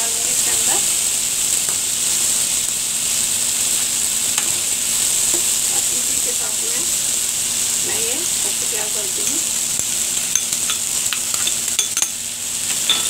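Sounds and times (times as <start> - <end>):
chickpeas sizzling in oil: 0.0 - 13.0.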